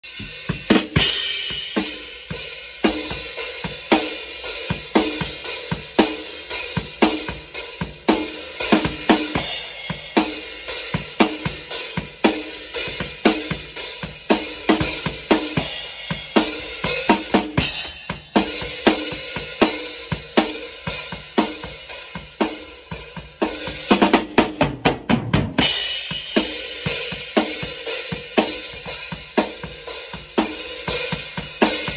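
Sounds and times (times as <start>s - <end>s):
drum kit playing: 0.0s - 31.9s.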